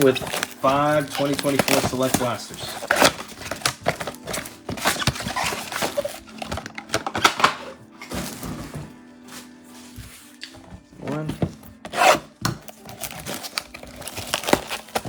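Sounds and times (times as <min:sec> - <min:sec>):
wrapper crinkling: 0:00.0 - 0:08.6, 0:11.2 - 0:15.0
background music: 0:00.0 - 0:15.0
cardboard scraping: 0:00.0 - 0:15.0.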